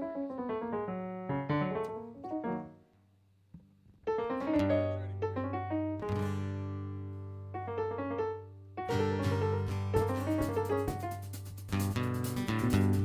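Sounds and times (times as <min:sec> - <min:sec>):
solo piano: 0:00.0 - 0:03.0, 0:04.0 - 0:13.0.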